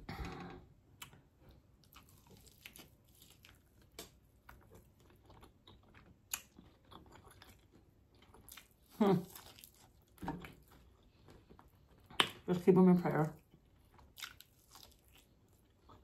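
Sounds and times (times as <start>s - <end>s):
faint chewing of food: 0.9s - 12.5s, 13.2s - 16.0s.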